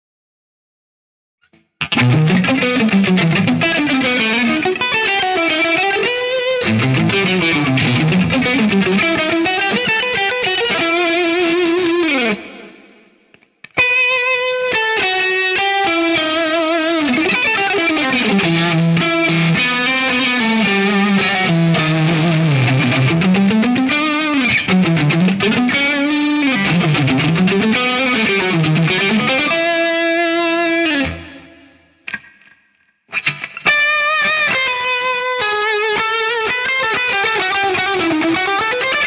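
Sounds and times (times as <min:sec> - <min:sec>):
distorted electric guitar lead: 0:01.5 - 0:39.0.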